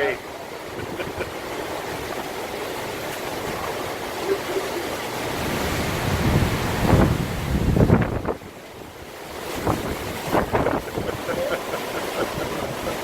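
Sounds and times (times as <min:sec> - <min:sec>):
strong wind buffeting microphone: 0:00.5 - 0:13.0.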